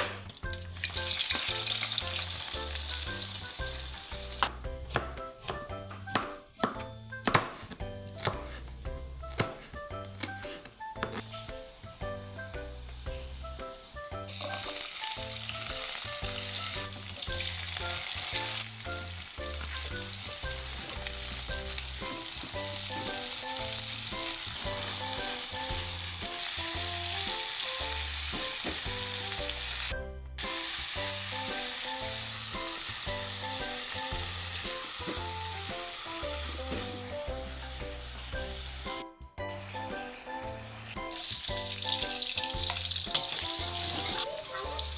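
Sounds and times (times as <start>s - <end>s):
food sizzling in hot oil: 0.2s - 4.6s, 11.1s - 39.0s, 39.6s - 44.9s.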